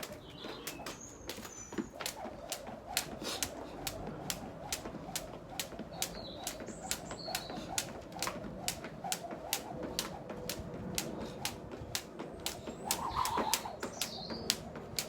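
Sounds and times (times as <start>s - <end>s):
jump rope slapping ground: 0.0s - 15.0s
rope whirring: 0.0s - 15.0s.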